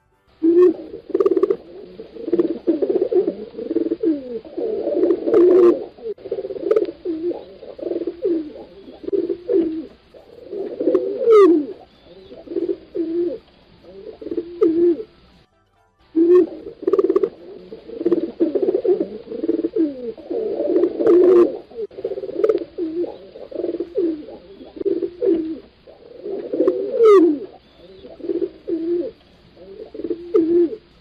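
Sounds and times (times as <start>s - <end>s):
pigeons cooing: 0.4s - 15.3s, 16.2s - 31.0s.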